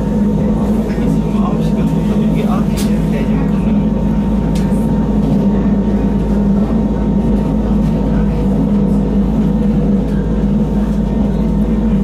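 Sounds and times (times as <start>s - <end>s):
rack railway train running: 0.0s - 12.0s.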